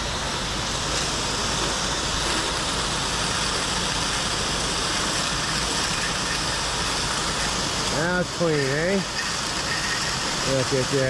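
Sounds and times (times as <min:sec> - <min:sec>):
pressure washer spraying: 0:00.0 - 0:11.0.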